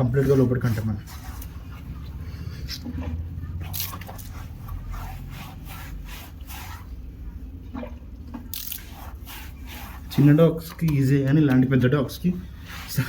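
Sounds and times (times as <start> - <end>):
gloves rubbing wet dog coat: 0.0 - 7.5, 8.7 - 11.3, 12.5 - 13.0.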